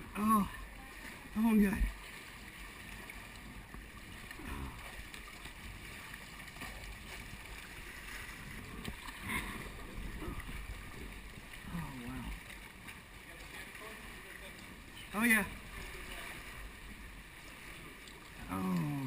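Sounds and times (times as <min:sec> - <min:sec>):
water splashing around kayak: 0:00.0 - 0:19.0.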